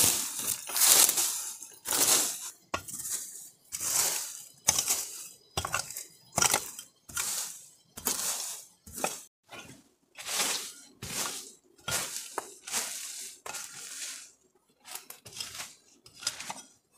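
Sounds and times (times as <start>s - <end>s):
hoe chopping soil and leaves: 0.0s - 9.3s, 10.2s - 16.7s.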